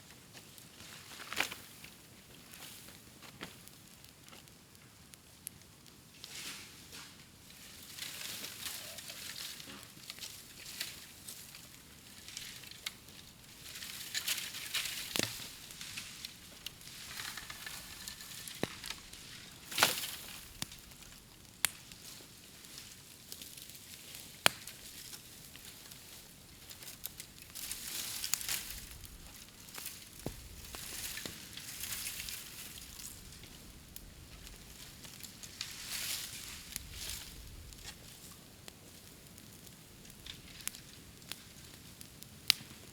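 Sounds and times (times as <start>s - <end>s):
bamboo bonfire crackling and hissing: 0.0s - 42.9s
sharp pops of burning bamboo: 0.6s - 42.9s.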